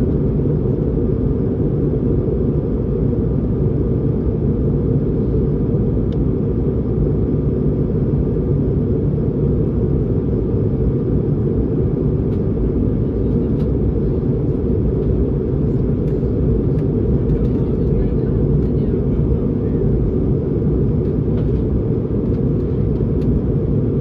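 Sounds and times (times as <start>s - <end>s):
airplane cabin rumble in flight: 0.0s - 24.0s.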